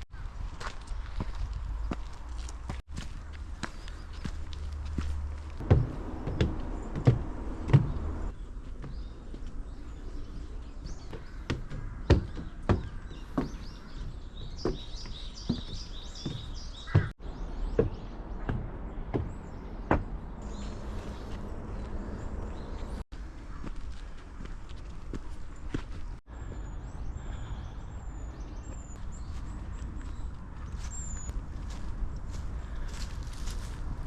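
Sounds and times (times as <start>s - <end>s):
footsteps on a path: 0.0s - 27.6s, 28.2s - 34.0s
birds chirping: 0.0s - 34.0s.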